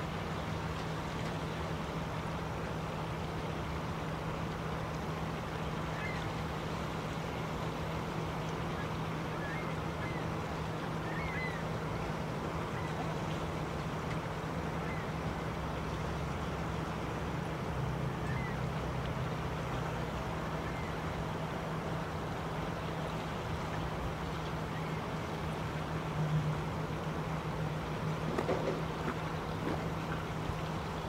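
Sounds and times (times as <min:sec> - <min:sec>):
constant rumbling background: 0:00.0 - 0:31.0.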